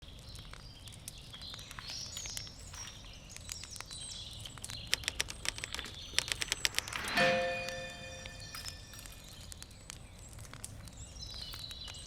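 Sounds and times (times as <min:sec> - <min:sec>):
campfire crackling and popping: 0:00.2 - 0:07.0, 0:08.7 - 0:12.0.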